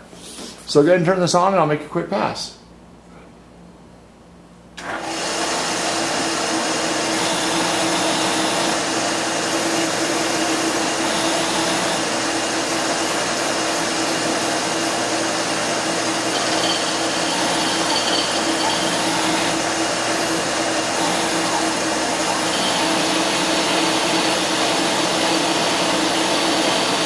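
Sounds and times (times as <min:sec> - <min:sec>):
lathe motor humming and whirring: 0:04.8 - 0:27.0
lathe cutting aluminium tubing: 0:05.0 - 0:27.0.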